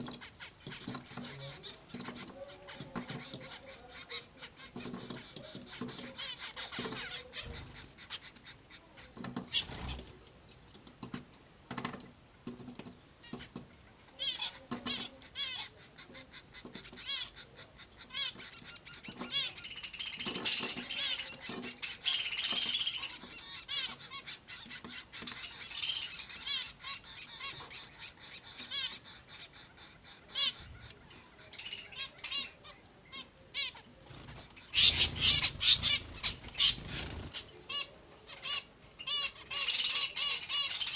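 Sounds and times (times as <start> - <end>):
finch chicks chirping: 0.0 - 40.9.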